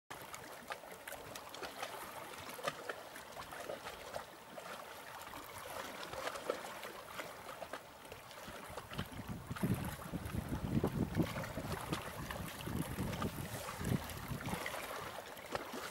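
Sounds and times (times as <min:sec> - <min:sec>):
small waves lapping on rocks: 0:00.1 - 0:15.9.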